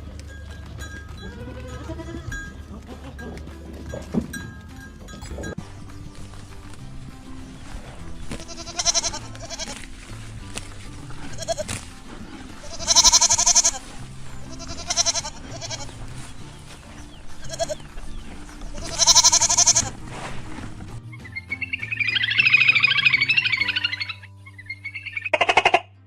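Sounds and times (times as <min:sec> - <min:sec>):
animal calling: 0:00.0 - 0:26.0
background music: 0:00.0 - 0:26.0.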